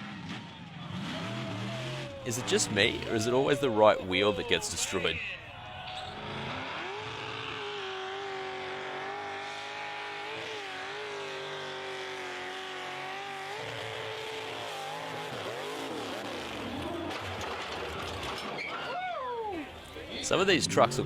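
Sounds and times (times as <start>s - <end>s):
truck engine revving: 0.0s - 5.1s, 6.1s - 18.5s, 20.2s - 21.0s.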